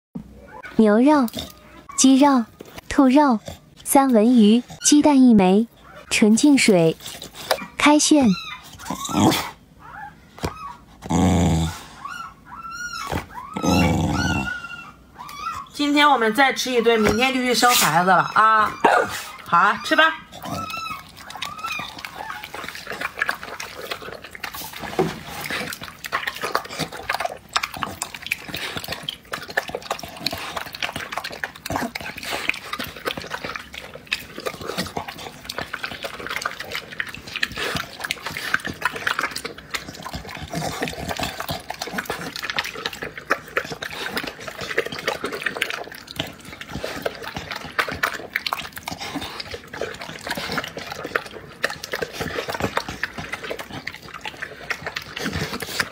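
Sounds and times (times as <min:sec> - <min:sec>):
dog chewing and slurping: 0:00.5 - 0:09.6, 0:10.4 - 0:55.9.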